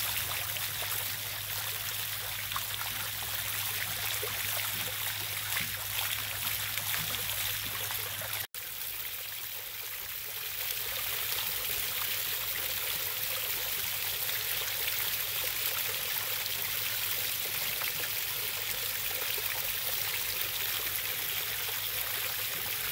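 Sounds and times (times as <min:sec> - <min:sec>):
fountain water bubbling and splashing: 0:00.0 - 0:22.9.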